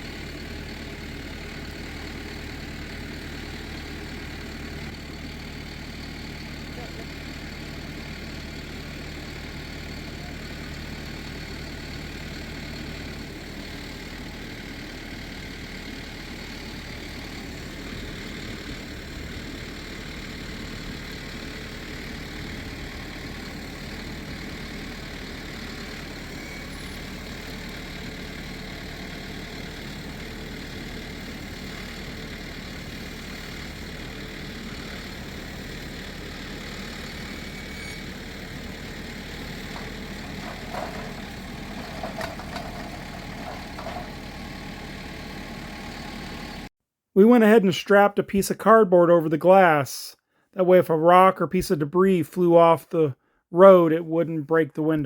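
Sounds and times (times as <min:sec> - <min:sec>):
farm machine engine idling: 0:00.0 - 0:46.7.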